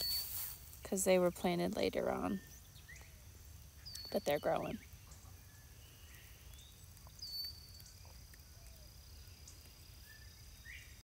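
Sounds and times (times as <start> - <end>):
rising bird chirp: 0.0 - 0.6, 2.2 - 11.0.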